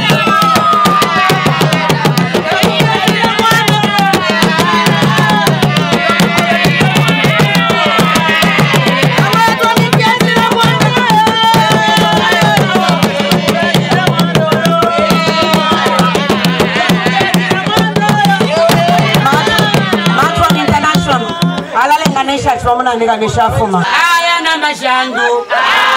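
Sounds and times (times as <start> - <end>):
singing: 0.0 - 22.2
drums beating fast rhythm: 0.0 - 23.8.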